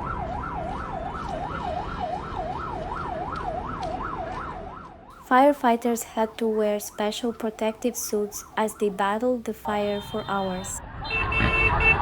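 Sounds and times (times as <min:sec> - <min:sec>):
siren yelping: 0:00.0 - 0:12.0.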